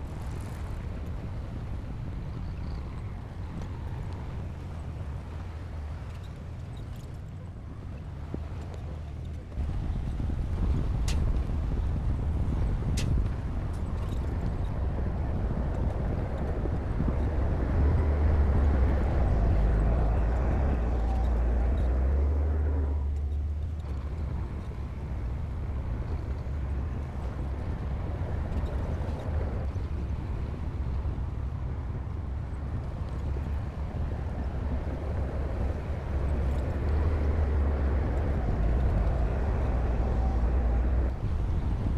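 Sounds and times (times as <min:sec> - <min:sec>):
bulldozer rumbling: 0:00.0 - 0:41.9.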